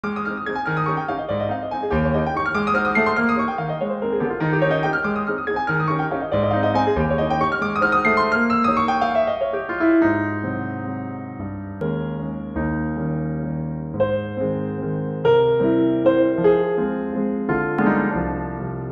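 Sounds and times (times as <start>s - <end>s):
piano melody: 0.0s - 18.9s.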